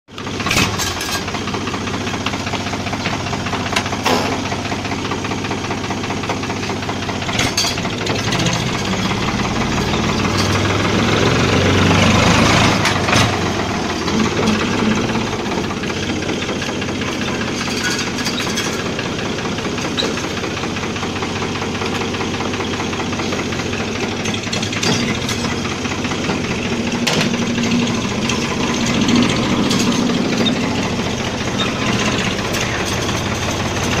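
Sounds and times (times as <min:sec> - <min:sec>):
tractor engine revving: 0:00.1 - 0:34.0.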